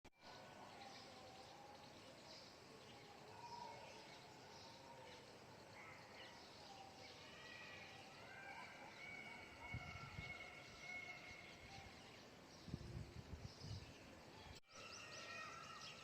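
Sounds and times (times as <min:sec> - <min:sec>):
distant bird calls and chirps: 0:00.2 - 0:16.0.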